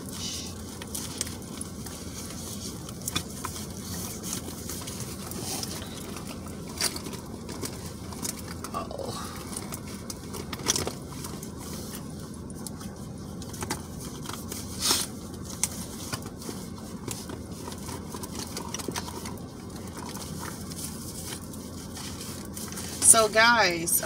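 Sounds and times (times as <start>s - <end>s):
rummaging rustles and clicks: 0.0s - 24.0s
steady low rumble: 0.0s - 24.0s.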